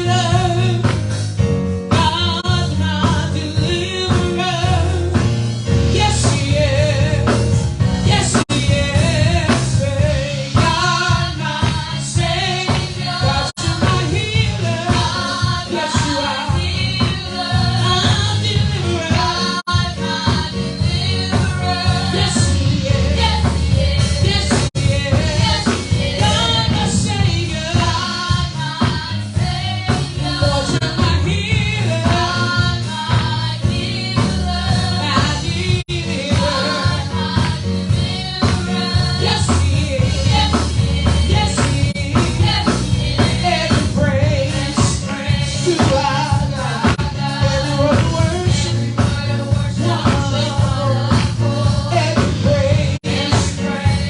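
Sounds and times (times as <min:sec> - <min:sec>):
gospel singing over a band: 0:00.0 - 0:54.0.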